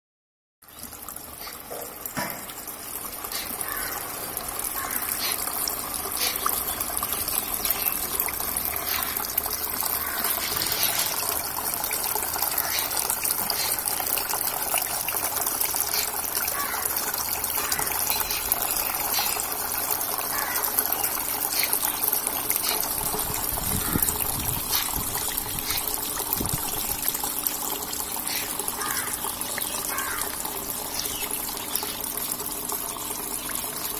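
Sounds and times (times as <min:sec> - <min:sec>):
fountain water splashing into pool: 0:00.7 - 0:33.9.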